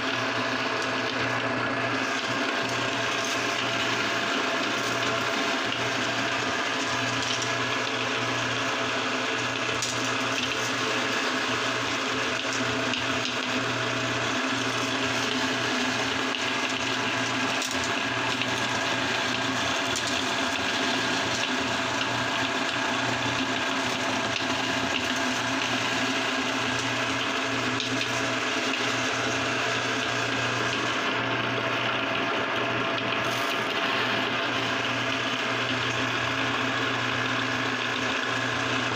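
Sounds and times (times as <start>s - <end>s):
grinder motor hum: 0.0s - 38.9s
meat grinder crunching candy: 0.0s - 38.9s.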